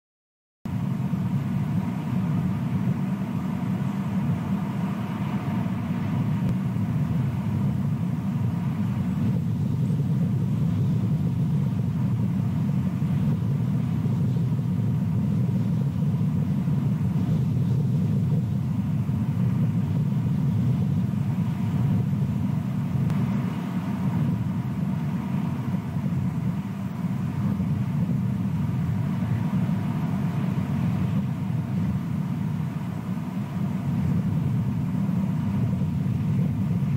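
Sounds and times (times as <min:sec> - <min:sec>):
faint even hum: 0:00.7 - 0:36.9
low rumble: 0:00.7 - 0:36.9.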